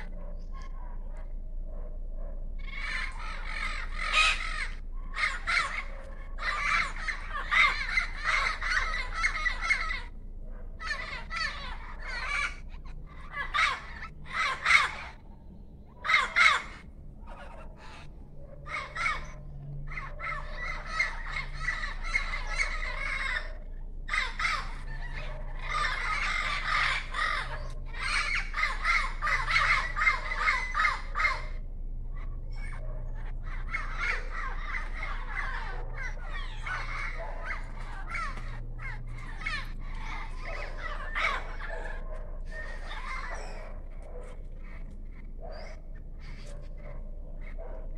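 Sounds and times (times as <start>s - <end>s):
parrots squawking: 2.5s - 47.9s.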